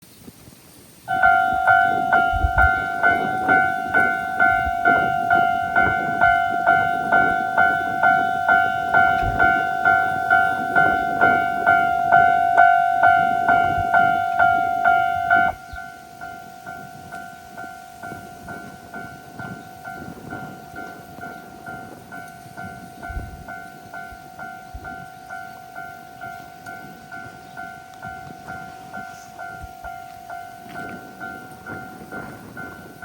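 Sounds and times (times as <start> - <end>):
level-crossing alarm chime: 1.1 - 33.0.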